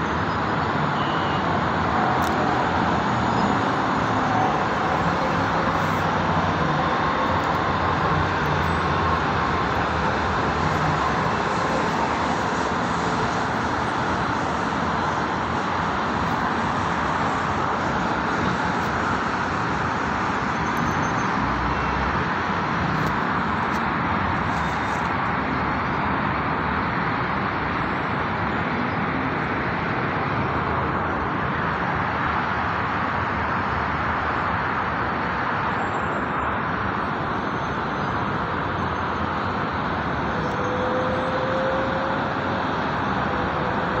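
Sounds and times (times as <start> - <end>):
distant highway traffic hum: 0.0 - 44.0.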